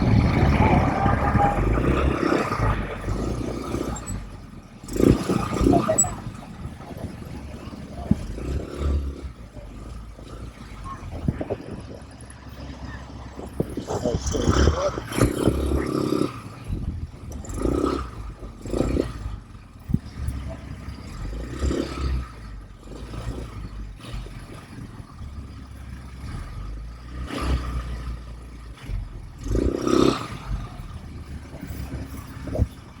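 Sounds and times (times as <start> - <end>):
rattles and scrapes: 0.0 - 27.1, 27.8 - 33.0
atv engine surging: 0.0 - 33.0.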